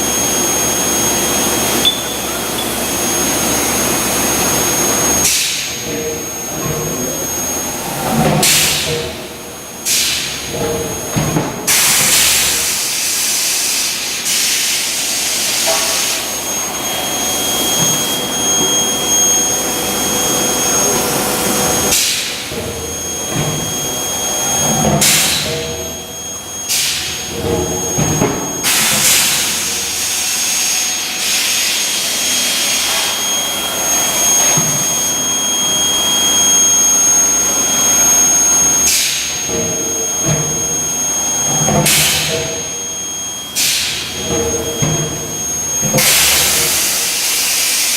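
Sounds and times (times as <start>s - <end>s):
high-pitched furnace whine: 0.0s - 47.9s
machinery noise: 0.0s - 47.9s.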